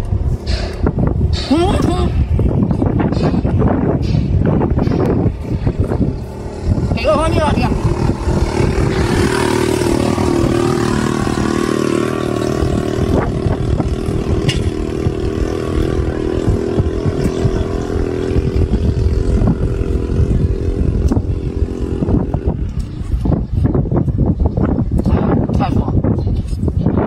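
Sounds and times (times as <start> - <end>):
engine running: 0.0 - 24.2.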